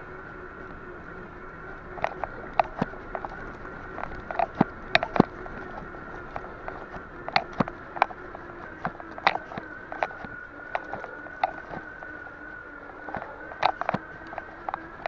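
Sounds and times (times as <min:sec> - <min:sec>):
bicycle frame rattling: 0:00.0 - 0:15.0
steady high whine: 0:00.0 - 0:15.0.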